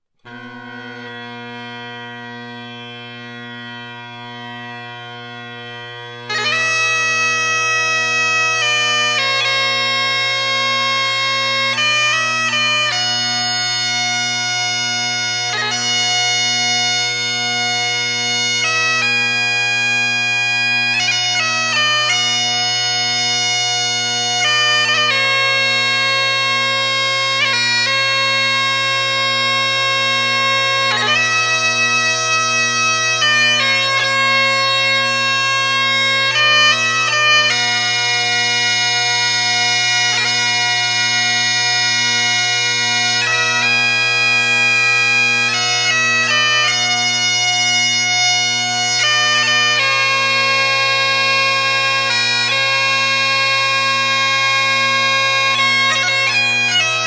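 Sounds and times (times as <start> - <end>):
bagpipe music: 0.2 - 57.0.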